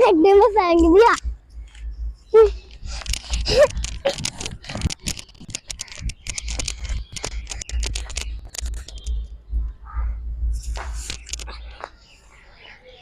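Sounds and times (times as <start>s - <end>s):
wind rumble on microphone: 0.0s - 12.4s
rustling and crackling clicks: 0.4s - 12.7s.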